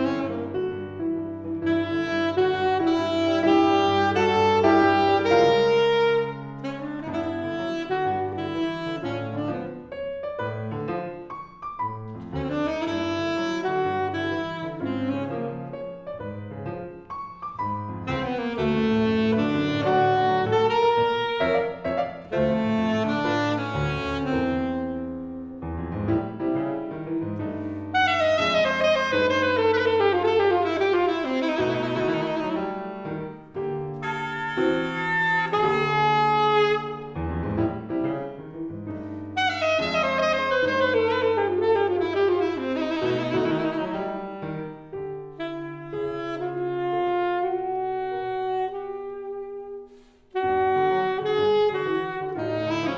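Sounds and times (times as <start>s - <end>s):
live instrumental ensemble music: 0.0s - 52.9s.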